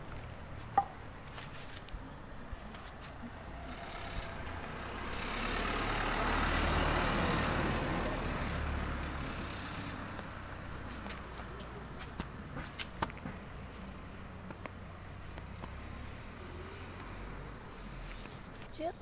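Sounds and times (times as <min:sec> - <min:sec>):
vehicle passing by: 0:02.6 - 0:19.0.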